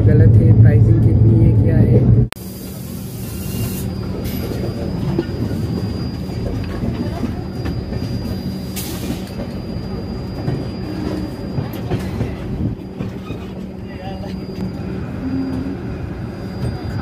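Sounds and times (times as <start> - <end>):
train wheels rumbling on rails: 0.0 - 17.0
high wheel squeal: 2.8 - 17.0.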